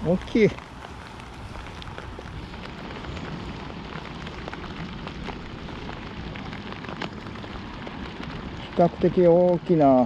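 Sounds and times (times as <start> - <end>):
raindrops tapping close by: 0.0 - 10.0
steady rain falling: 0.0 - 10.0.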